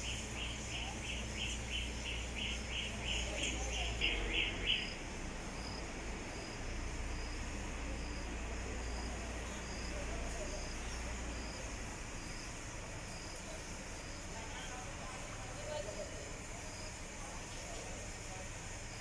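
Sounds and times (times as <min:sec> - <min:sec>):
high-pitched insect chirp: 0:00.0 - 0:19.0.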